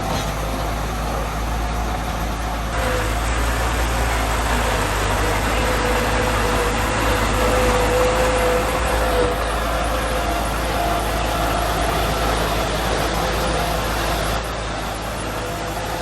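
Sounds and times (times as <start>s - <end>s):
diesel machine engine running: 0.0s - 16.0s.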